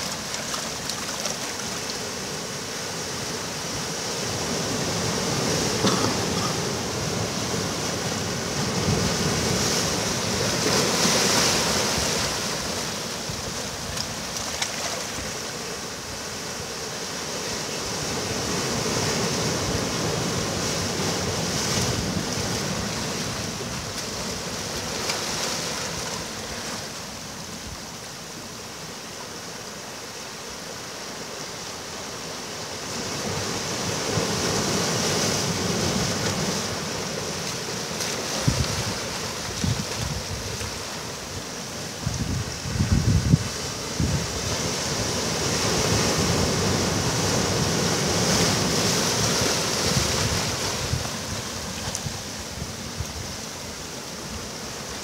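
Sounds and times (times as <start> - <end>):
surf breaking on beach: 0.0 - 28.0, 32.1 - 55.0.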